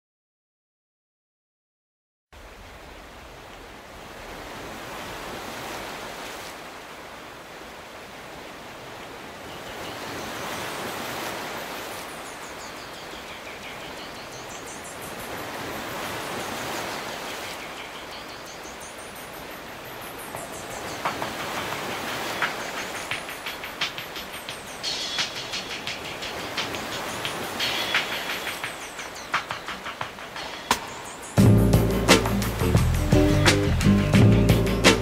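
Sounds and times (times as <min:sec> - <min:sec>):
surf washing: 0:02.4 - 0:35.0.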